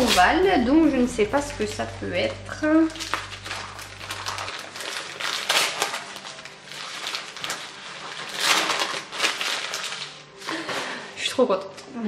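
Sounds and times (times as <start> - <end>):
wrapping paper crinkling: 0.0 - 0.6, 1.3 - 11.2.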